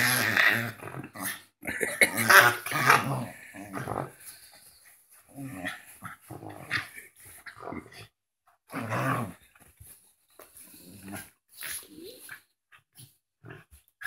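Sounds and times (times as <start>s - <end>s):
small dogs growling in play: 0.0s - 10.0s, 10.6s - 14.0s.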